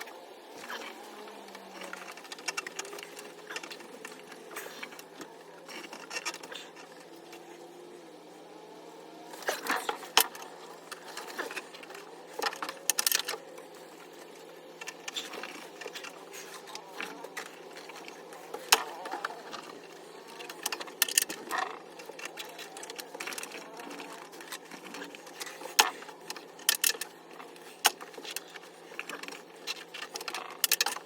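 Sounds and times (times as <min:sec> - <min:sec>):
tools and parts clicking and rattling: 0:00.0 - 0:07.7, 0:09.2 - 0:31.0.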